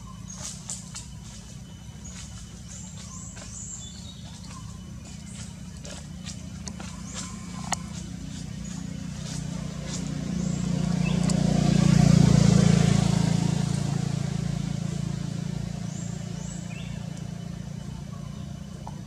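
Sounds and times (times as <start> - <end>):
vehicle engine passing: 0.0 - 19.0.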